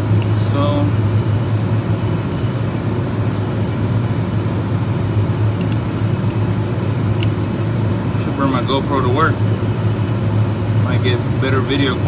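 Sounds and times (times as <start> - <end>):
industrial machinery drone: 0.0 - 12.0.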